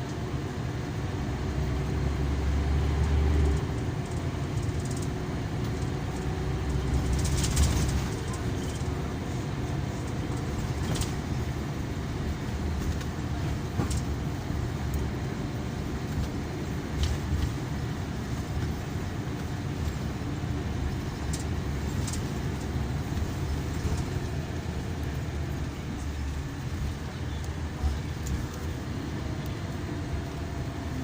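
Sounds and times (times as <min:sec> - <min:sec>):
coach engine and road rumble: 0:00.0 - 0:31.0
interior clicks and rattles: 0:03.0 - 0:30.4.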